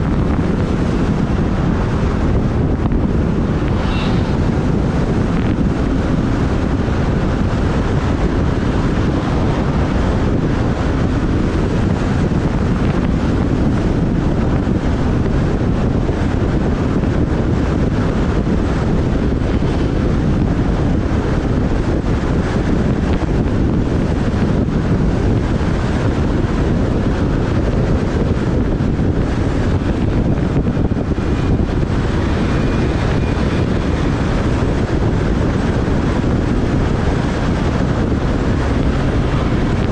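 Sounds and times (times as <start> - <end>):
motorbike running: 0.0 - 39.9
road noise: 0.0 - 39.9
wind buffeting microphone: 0.0 - 39.9.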